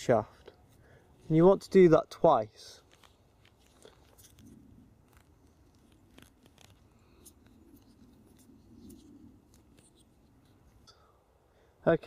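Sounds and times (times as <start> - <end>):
root wrapping clicks and scratching: 0.0 - 11.0.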